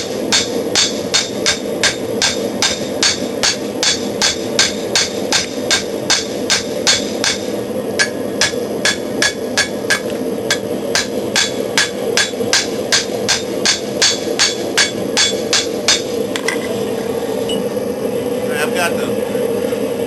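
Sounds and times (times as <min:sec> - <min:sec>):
hammer striking steel on anvil: 0:00.0 - 0:16.1
gas forge hum: 0:00.0 - 0:20.0.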